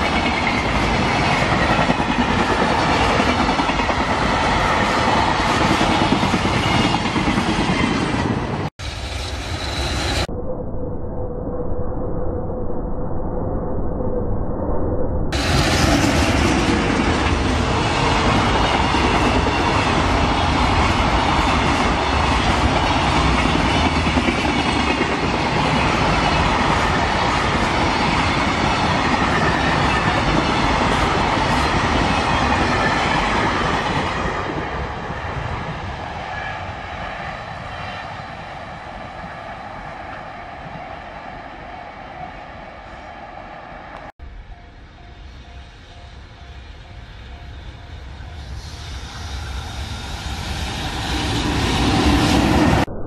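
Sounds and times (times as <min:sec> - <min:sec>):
freight train passing on rails: 0:00.0 - 0:10.3, 0:15.4 - 0:53.0.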